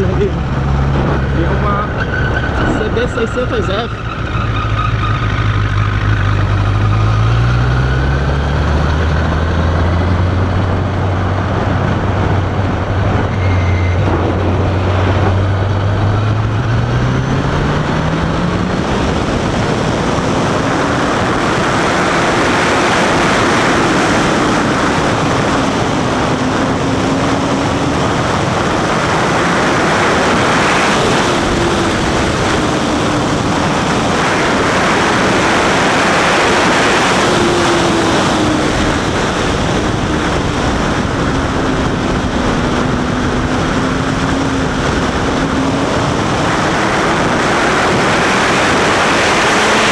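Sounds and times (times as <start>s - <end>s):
motorcycle engine revving: 0.0s - 49.9s
wind noise on microphone: 0.0s - 49.9s.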